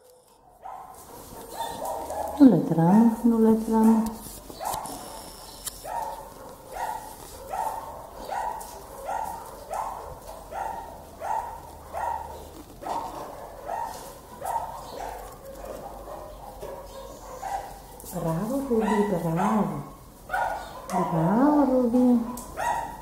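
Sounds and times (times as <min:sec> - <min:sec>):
dog barking: 0:00.0 - 0:04.0, 0:04.6 - 0:23.0.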